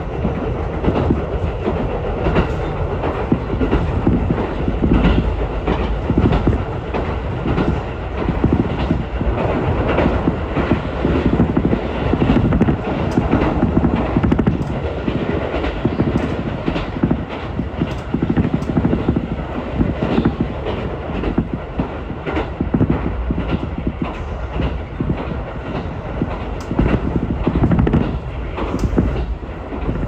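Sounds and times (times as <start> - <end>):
clatter over rail joints: 0.0 - 30.0
train wheels rumbling on rail: 0.0 - 30.0.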